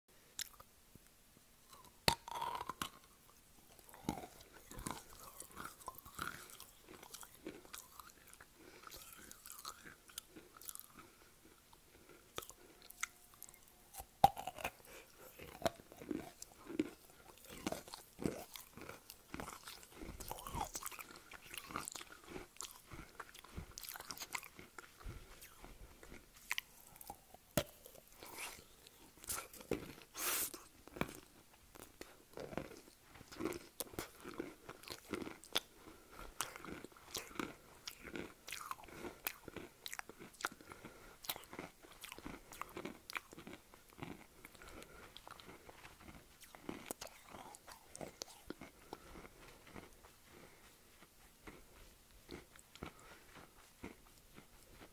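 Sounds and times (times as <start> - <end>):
crunchy chewing: 1.7 - 54.9.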